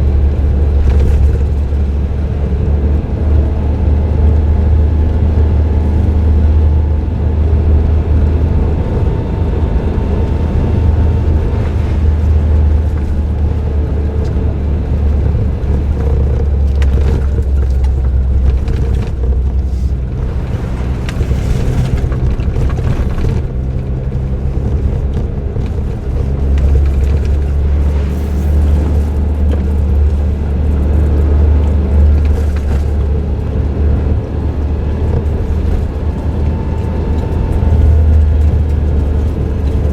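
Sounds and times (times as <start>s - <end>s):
car engine droning: 0.0s - 39.9s
tyre and road noise: 0.0s - 39.9s.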